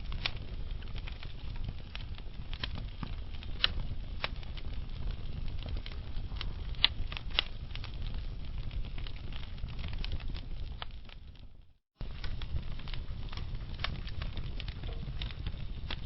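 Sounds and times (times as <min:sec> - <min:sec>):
wood fire burning with pops: 0:00.0 - 0:16.0.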